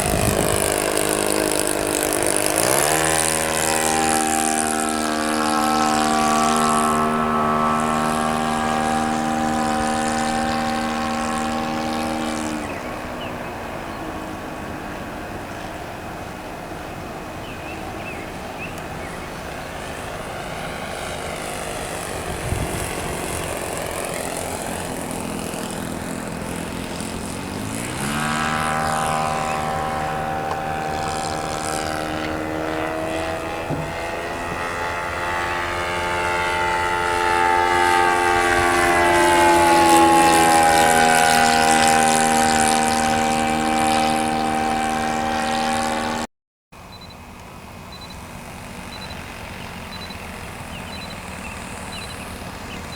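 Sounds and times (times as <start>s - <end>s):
model plane engine running: 0.0s - 52.9s.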